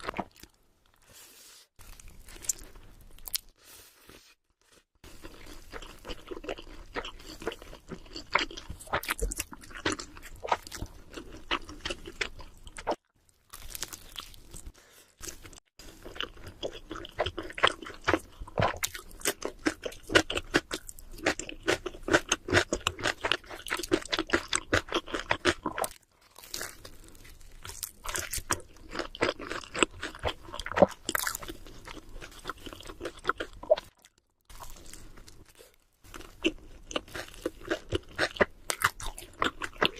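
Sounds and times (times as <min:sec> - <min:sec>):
close chewing and crunching: 0:00.0 - 0:01.2, 0:01.8 - 0:39.9.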